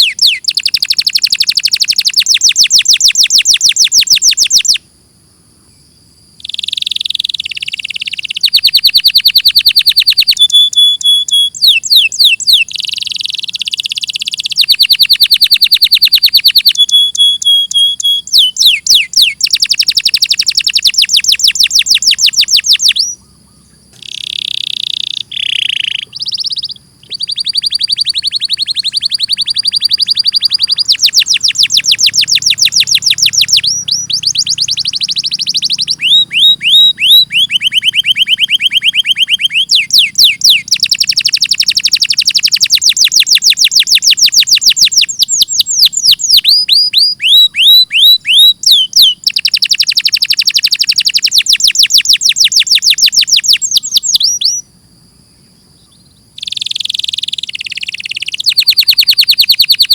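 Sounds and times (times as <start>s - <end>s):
canary singing trills: 0.0s - 4.9s, 5.6s - 54.7s, 55.4s - 59.9s.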